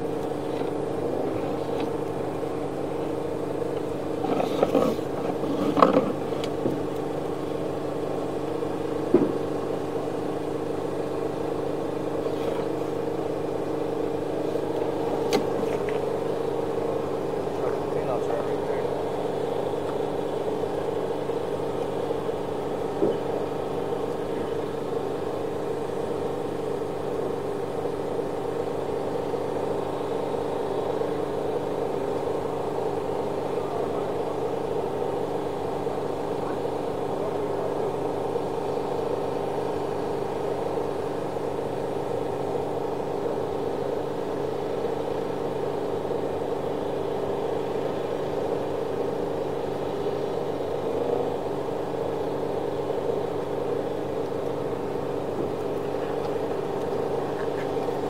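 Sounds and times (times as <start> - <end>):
small motor humming: 0.0 - 58.0.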